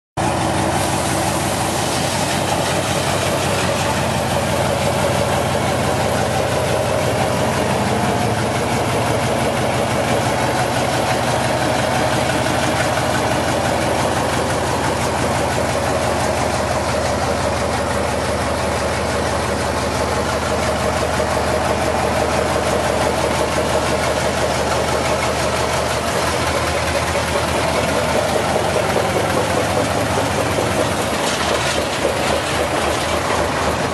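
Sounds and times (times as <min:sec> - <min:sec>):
diesel truck engine idling: 0:00.2 - 0:33.9.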